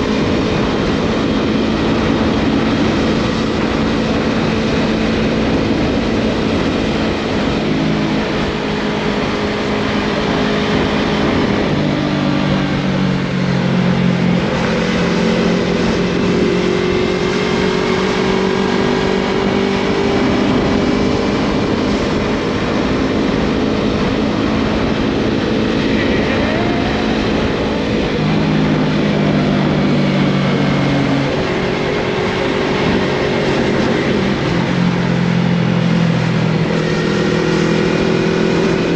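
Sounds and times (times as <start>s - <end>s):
motorcycle engine revving: 0.0s - 38.9s
wind and road noise: 0.0s - 38.9s.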